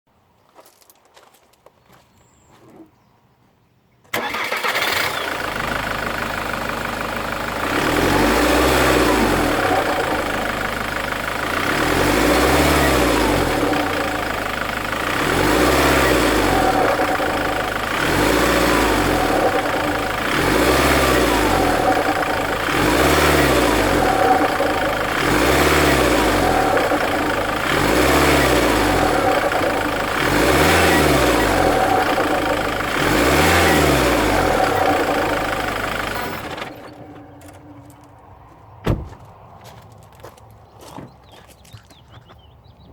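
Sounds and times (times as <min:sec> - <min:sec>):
diesel engine revving: 0:04.1 - 0:38.5.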